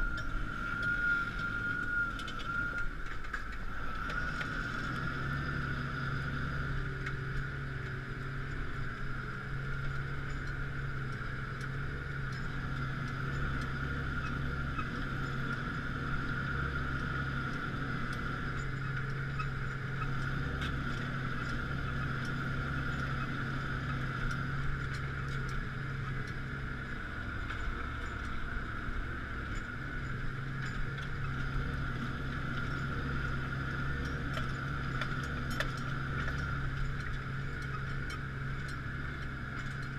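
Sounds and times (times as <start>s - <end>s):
steady high whine: 0.0s - 39.9s
tractor diesel engine under load: 0.0s - 39.9s.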